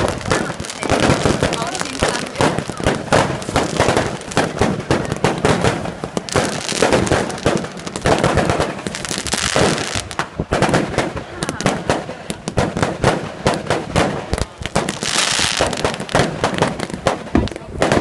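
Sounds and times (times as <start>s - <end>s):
fireworks banging and crackling: 0.0s - 18.0s.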